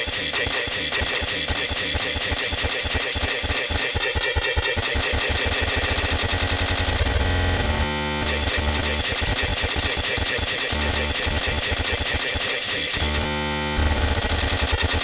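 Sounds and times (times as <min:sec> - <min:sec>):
buzzing machine-like noise: 0:00.0 - 0:15.0.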